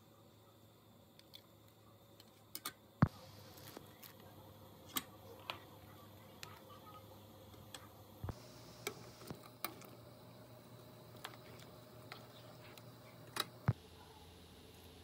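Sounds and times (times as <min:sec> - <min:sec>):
faint steady background: 0:00.0 - 0:15.0.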